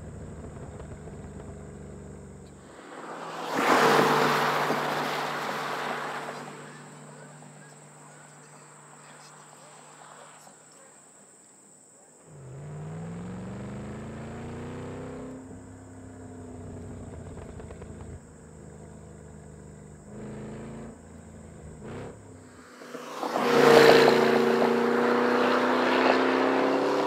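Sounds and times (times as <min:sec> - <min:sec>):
car engine accelerating: 0:00.0 - 0:10.4, 0:12.2 - 0:27.0
faint insect chirping: 0:00.0 - 0:27.0.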